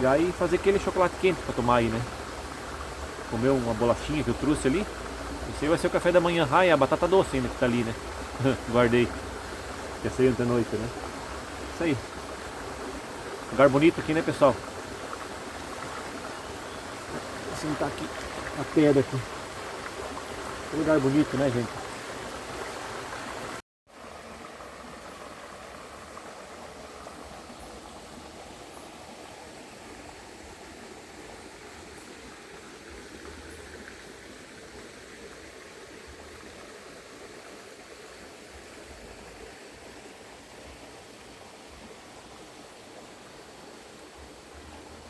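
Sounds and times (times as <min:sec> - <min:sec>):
river flowing over rocks: 0:00.0 - 0:45.0.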